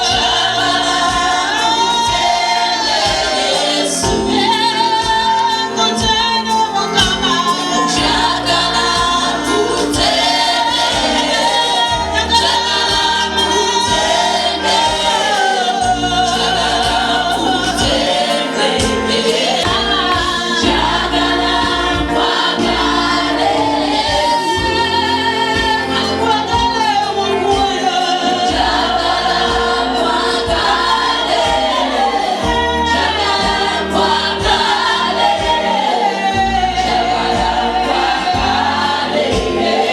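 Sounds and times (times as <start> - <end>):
bass and beat: 0.0 - 39.9
choir singing: 0.0 - 39.9.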